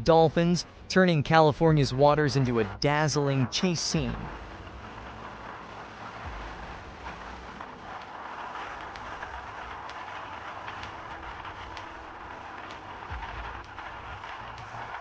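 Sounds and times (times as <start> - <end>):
boat engine low rumble: 0.0 - 15.0
sharp ticks: 2.3 - 15.0.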